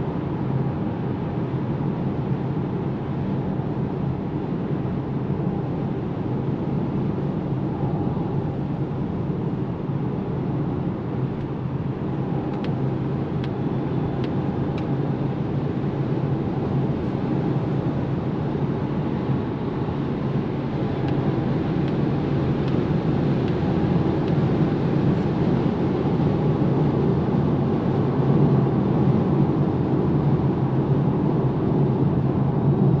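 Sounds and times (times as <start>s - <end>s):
road and tyre noise: 0.0s - 33.0s.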